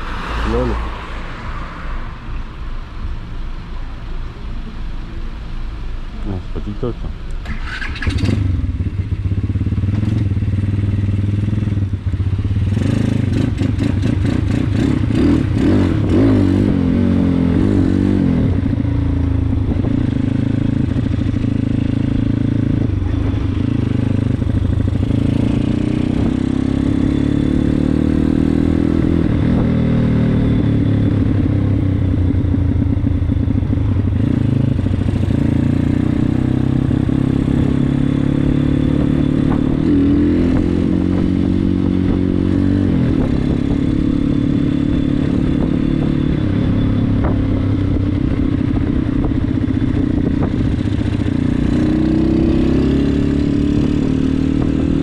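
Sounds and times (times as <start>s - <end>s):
motorbike engine revving: 7.4s - 18.8s, 19.8s - 55.0s.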